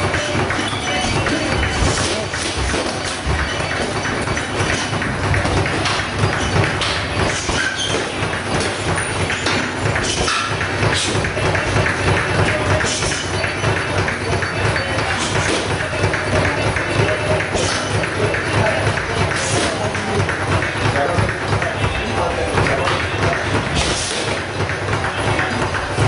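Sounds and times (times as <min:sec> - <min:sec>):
gym background noise: 0:00.0 - 0:26.0.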